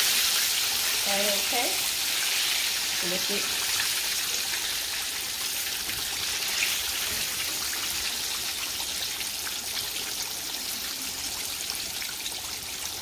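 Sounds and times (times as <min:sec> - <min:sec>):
fish deep-frying in hot oil: 0:00.0 - 0:13.0.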